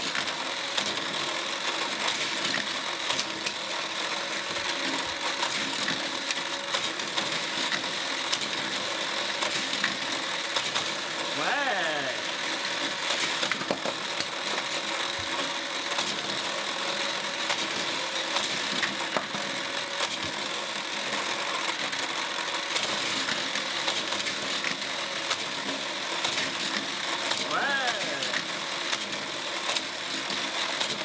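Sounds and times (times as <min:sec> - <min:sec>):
toy track booster whirring: 0:00.0 - 0:31.0.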